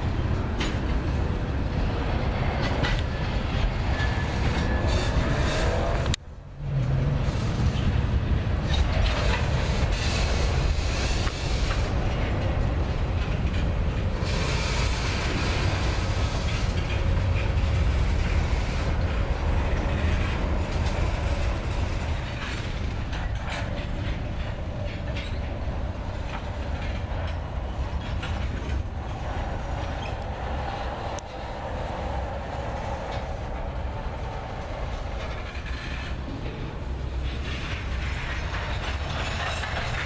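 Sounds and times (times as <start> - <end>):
clicks over rail joints: 0.0 - 40.0
rumble of steel train wheels: 0.0 - 40.0.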